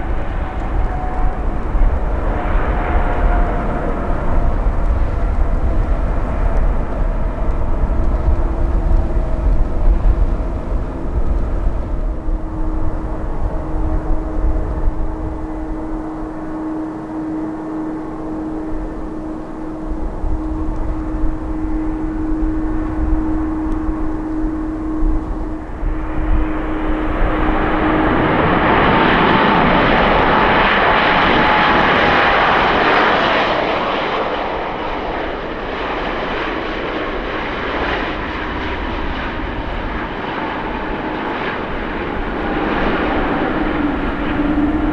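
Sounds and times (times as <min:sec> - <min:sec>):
whine sliding down in pitch: 0:00.0 - 0:36.7, 0:37.6 - 0:44.9
jet engines roaring: 0:00.0 - 0:44.9.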